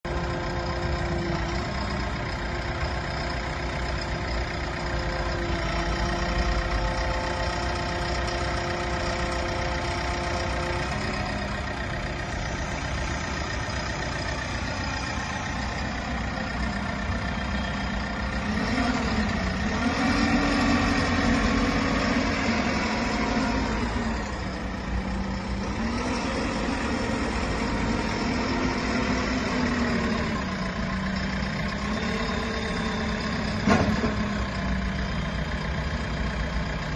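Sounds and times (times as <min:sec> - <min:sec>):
backhoe diesel engine running: 0:00.0 - 0:36.9.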